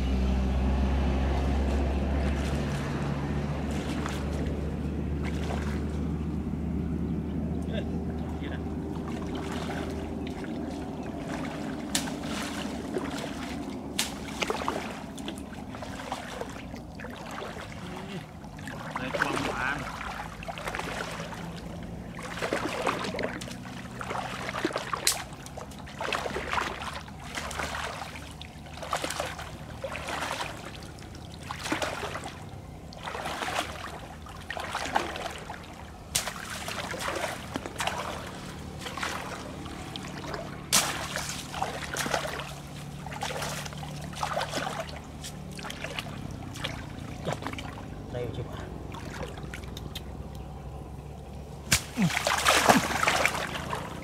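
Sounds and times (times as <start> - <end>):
legs splashing through water: 0.0 - 54.0.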